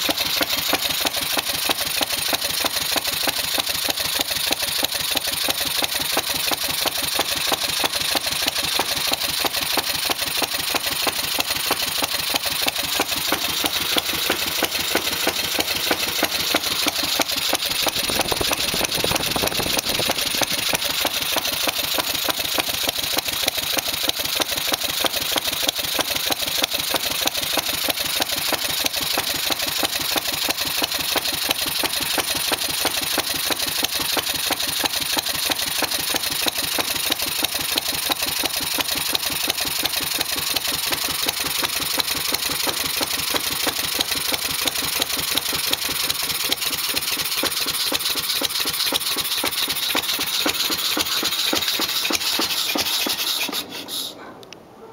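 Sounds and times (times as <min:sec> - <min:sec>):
single-cylinder engine running: 0:00.0 - 0:54.9.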